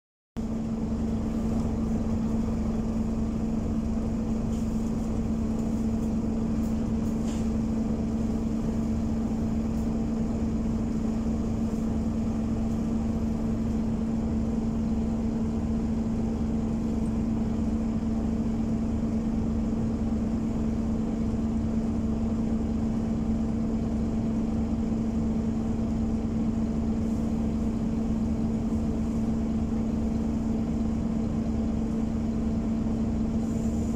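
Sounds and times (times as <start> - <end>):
bus engine idling: 0.4 - 33.9
engine cooling fan humming: 0.4 - 33.9.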